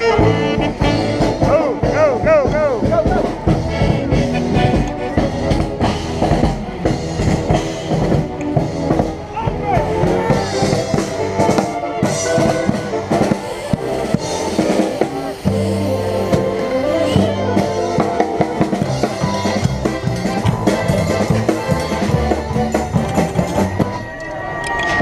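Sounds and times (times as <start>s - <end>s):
upright bass notes: 0.0s - 24.0s
drums: 0.0s - 25.0s
string band playing: 0.0s - 25.0s.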